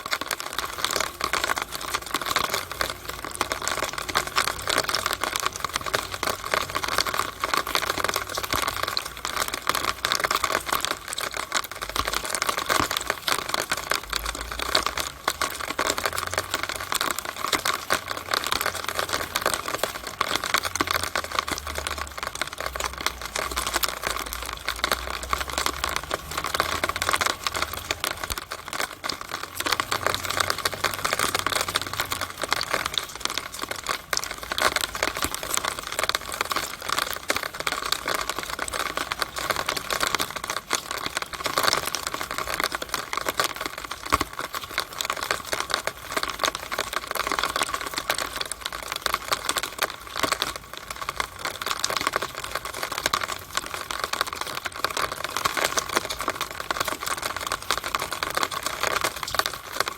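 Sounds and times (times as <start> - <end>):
rain dripping in drainpipe: 0.0 - 59.9.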